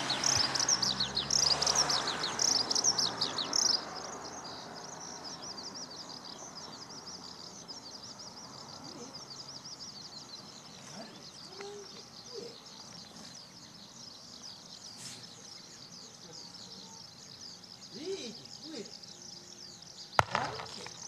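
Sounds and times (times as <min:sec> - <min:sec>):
skylark singing: 0:00.0 - 0:21.0.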